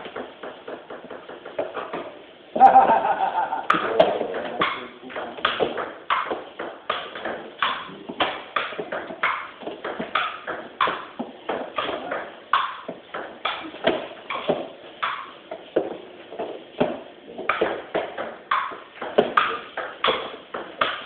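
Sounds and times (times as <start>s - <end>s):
ping pong ball hitting paddles: 0.0s - 21.0s
ball bouncing on table: 2.9s - 21.0s.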